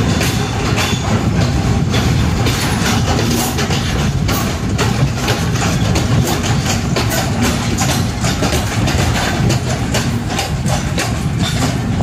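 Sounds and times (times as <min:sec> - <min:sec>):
diesel locomotive engine rumbling: 0:00.0 - 0:12.0
train wheels clicking over rail joints: 0:00.0 - 0:12.0.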